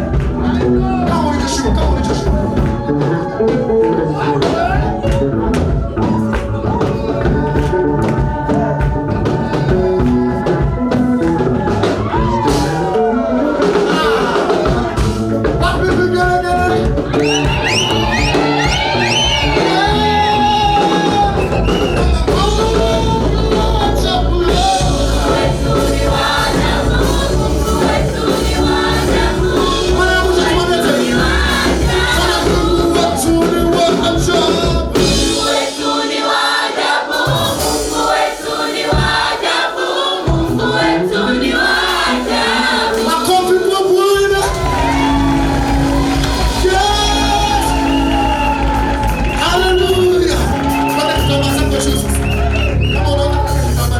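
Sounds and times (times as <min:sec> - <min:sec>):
heavy bass line: 0:00.0 - 0:35.5, 0:40.3 - 0:53.9
band playing gospel music: 0:00.0 - 0:53.9
choir and congregation singing: 0:00.0 - 0:53.9.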